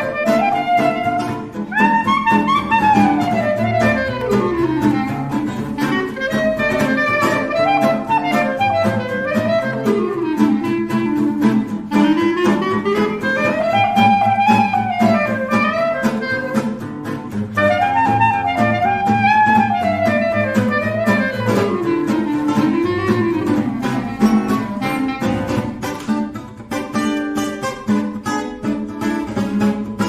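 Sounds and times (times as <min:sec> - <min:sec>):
instrumental music with steady beat: 0:00.0 - 0:30.0.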